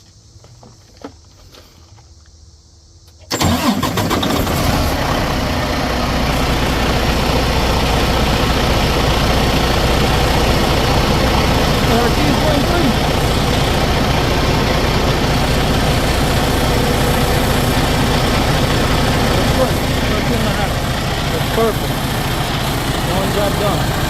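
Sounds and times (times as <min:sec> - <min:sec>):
diesel engine starting and idling: 0:03.0 - 0:24.0.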